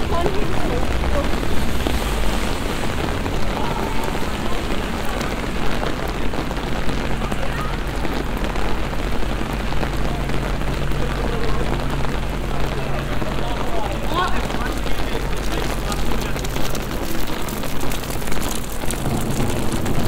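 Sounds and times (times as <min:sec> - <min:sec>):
heavy rain on paving stones: 0:00.0 - 0:20.0.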